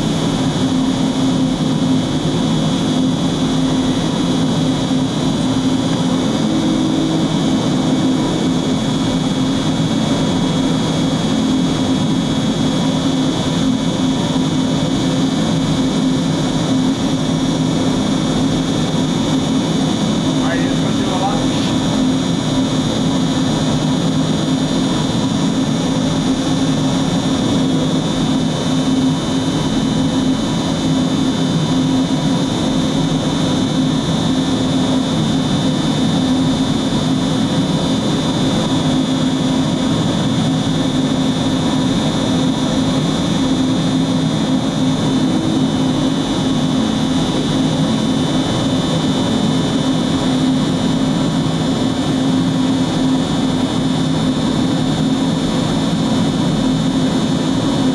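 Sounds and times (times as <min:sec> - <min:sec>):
cnc router spindle whine: 0:00.0 - 0:57.9
low machine drone: 0:00.0 - 0:57.9.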